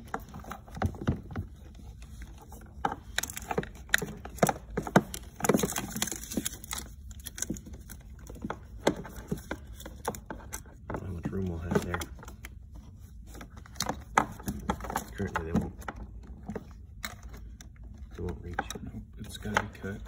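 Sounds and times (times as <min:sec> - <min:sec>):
wires rustling: 0:00.0 - 0:20.0.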